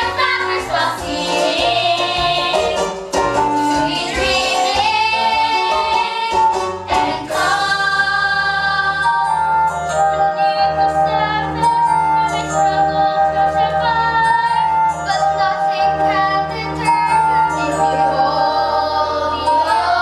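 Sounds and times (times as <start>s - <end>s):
voices singing show tune: 0.0s - 3.0s, 3.6s - 20.0s
instrumental accompaniment: 0.0s - 20.0s.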